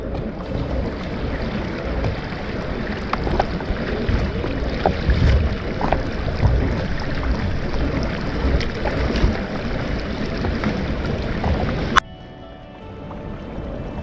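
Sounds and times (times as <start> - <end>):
wind rumbling on microphone: 0.0 - 12.0
water around a kayak: 0.0 - 14.0.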